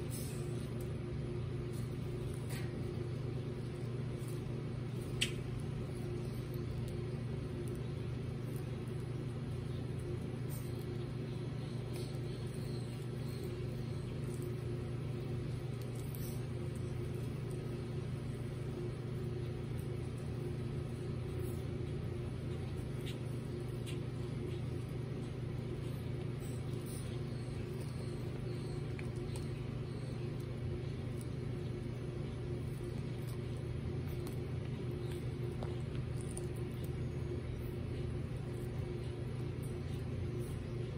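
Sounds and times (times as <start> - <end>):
low machine hum with tones: 0.0 - 40.9.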